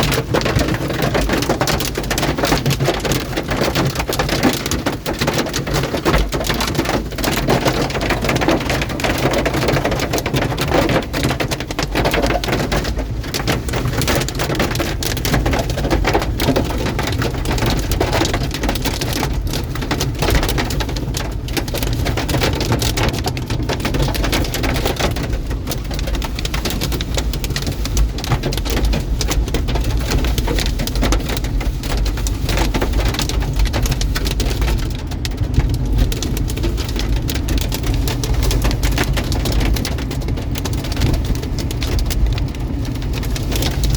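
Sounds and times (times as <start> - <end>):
hail and rain pounding: 0.0 - 43.9.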